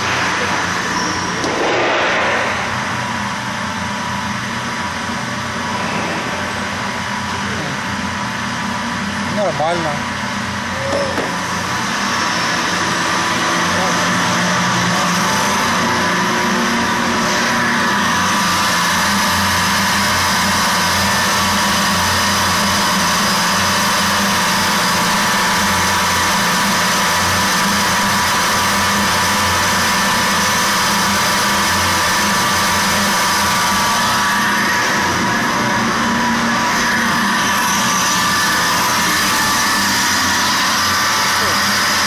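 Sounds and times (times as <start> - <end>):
pump motor humming and whining: 0.0 - 42.0.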